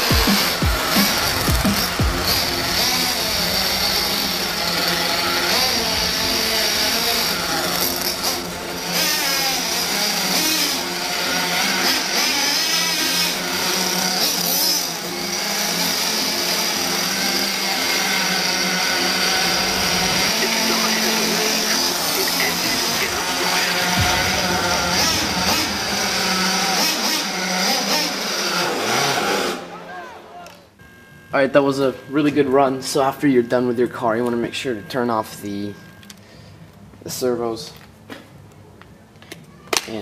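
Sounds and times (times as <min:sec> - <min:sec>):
small nitro engine whining: 0:00.0 - 0:36.7.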